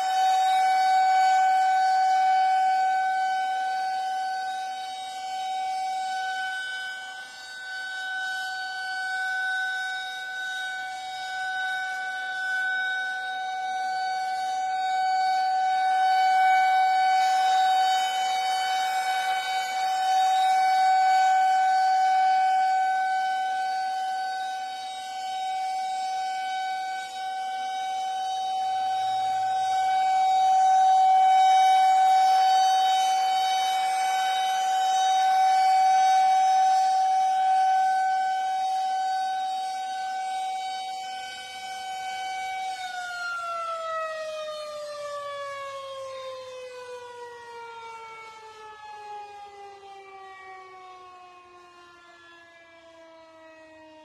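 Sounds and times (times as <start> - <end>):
air raid siren wailing: 0.0 - 54.0.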